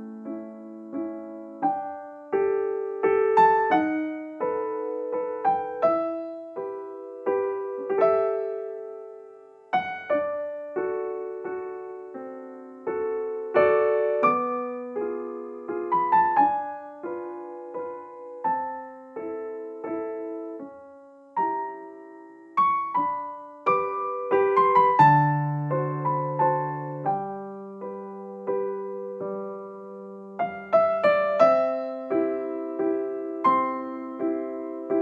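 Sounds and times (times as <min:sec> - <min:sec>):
gentle solo piano: 0:00.0 - 0:35.0.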